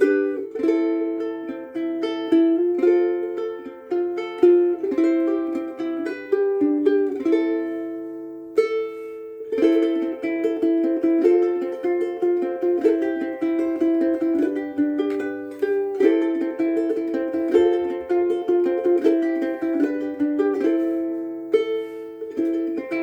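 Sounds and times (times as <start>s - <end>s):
ukulele played fingerstyle: 0.0s - 23.0s.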